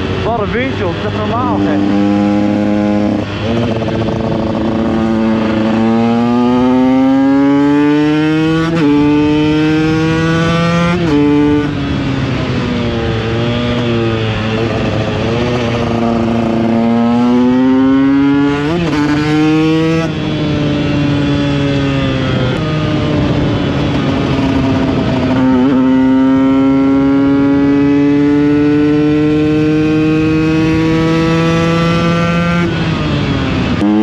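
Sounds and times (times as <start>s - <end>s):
two-stroke motorcycle engine accelerating: 0.0s - 34.0s.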